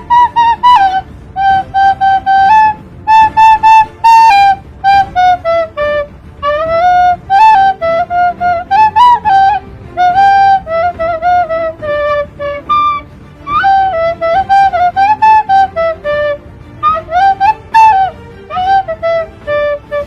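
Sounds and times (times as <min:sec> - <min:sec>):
flute-like melody: 0:00.0 - 0:20.0.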